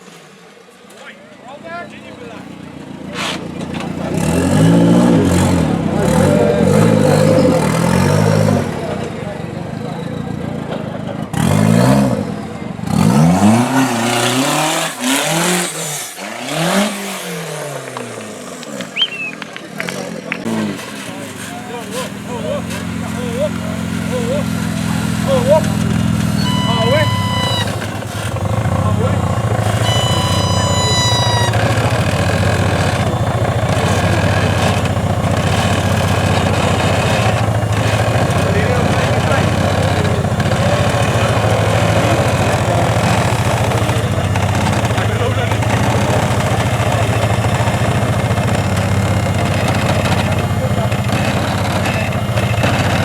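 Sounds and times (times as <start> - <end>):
truck engine revving hard: 2.6 - 53.0.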